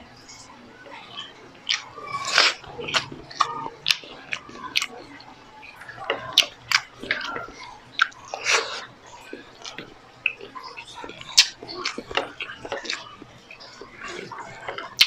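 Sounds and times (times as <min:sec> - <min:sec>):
sharp mouth clicks: 0:00.3 - 0:15.0
wet chewing and lip smacks: 0:00.3 - 0:15.0.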